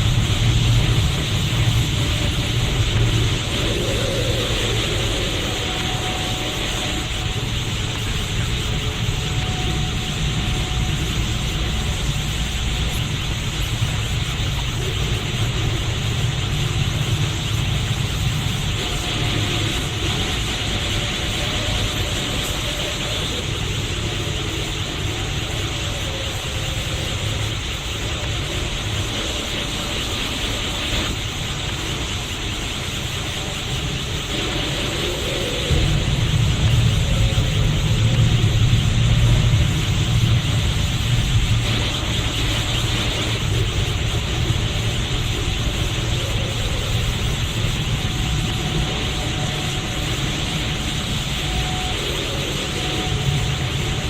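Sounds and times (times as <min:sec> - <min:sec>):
faint steady hum: 0:00.0 - 0:54.0
low rumble: 0:00.0 - 0:54.0
rushing hiss: 0:00.0 - 0:54.0.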